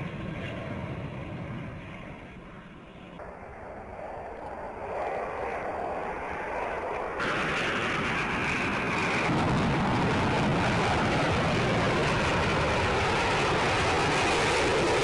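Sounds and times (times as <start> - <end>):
high-pitched jet whine: 0.0 - 15.0
jet engines roaring: 0.0 - 15.0.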